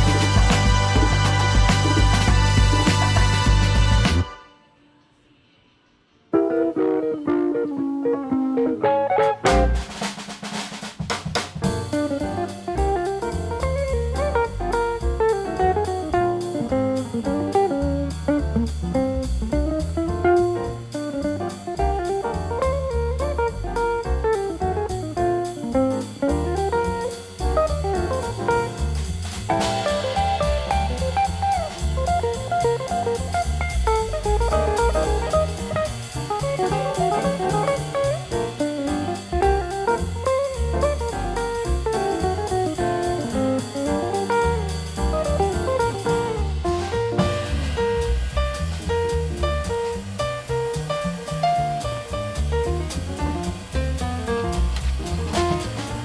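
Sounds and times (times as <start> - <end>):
drum beat: 0.0 - 4.4, 9.1 - 56.0
instrumental guitar music: 0.0 - 4.4, 6.3 - 9.9, 11.9 - 56.0.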